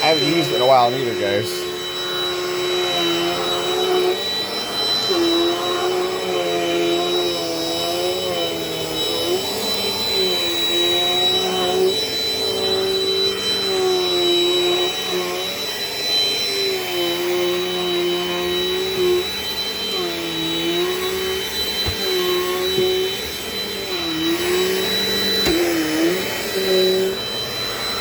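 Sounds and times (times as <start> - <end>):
vacuum cleaner motor whine: 0.0 - 28.0.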